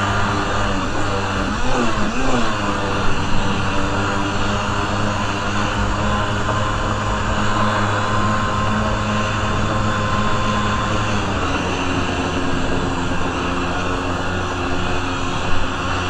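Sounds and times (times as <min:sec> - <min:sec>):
jet ski engine running: 0:00.0 - 0:16.0
rush of wind and water: 0:00.0 - 0:16.0.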